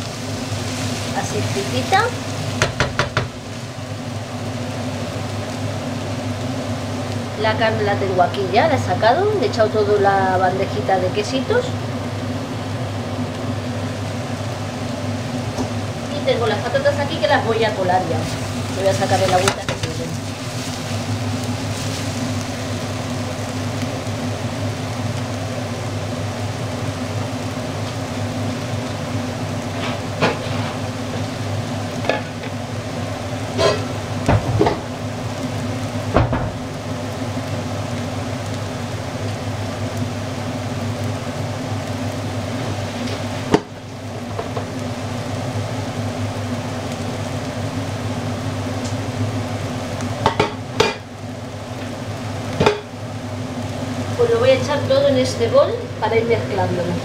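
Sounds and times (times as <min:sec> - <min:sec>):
eggplant sizzling in a pan: 0:00.0 - 0:57.0.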